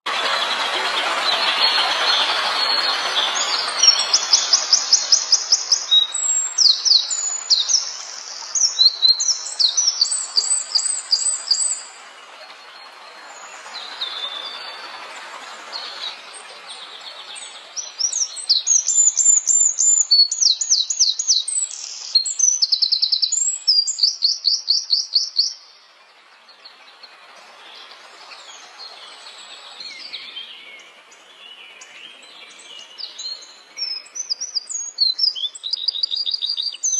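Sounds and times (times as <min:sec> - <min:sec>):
songbird singing: 0:00.0 - 0:36.9
soft bird twittering: 0:00.2 - 0:36.9.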